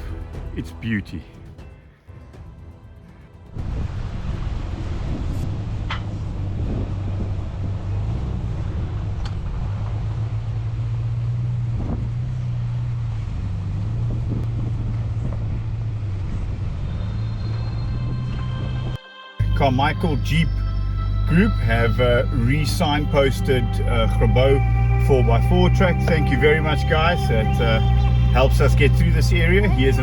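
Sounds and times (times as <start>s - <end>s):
engine droning: 3.4s - 30.0s.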